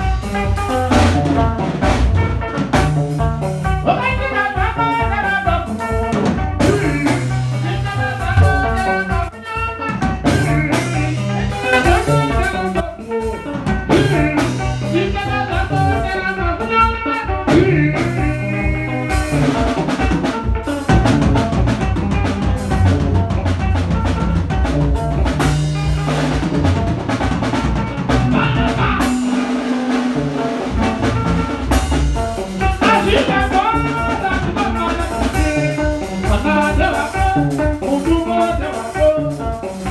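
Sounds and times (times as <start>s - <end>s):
drum kit: 0.0s - 39.9s
electric bass: 0.0s - 39.9s
higher melody line: 0.0s - 39.9s.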